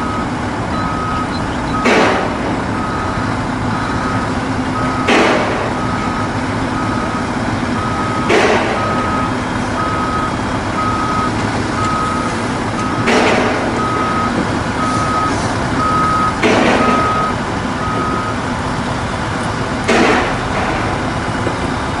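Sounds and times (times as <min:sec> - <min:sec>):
diesel truck engine running: 0:00.0 - 0:22.0
truck reversing alarm beeping: 0:00.0 - 0:22.0.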